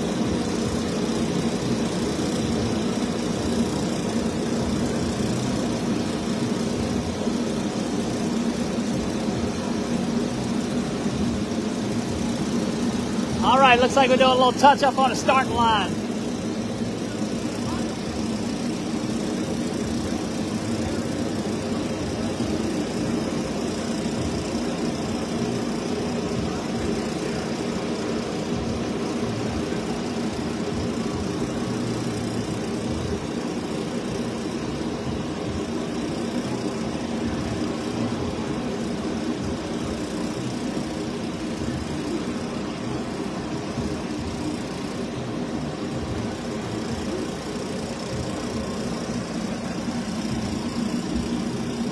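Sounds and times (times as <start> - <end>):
race car engines idling: 0.0 - 51.9.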